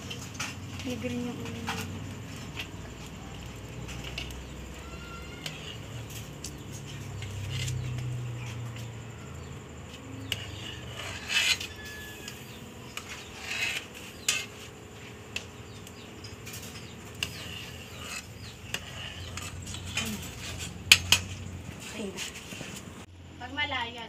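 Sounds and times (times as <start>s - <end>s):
metal ladle scraping a pot: 1.7s - 22.9s.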